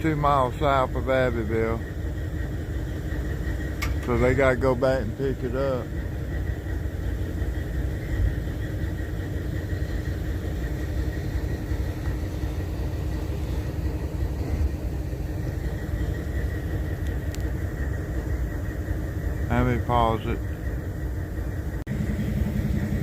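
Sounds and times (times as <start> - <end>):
locomotive engine idling: 0.0 - 23.0.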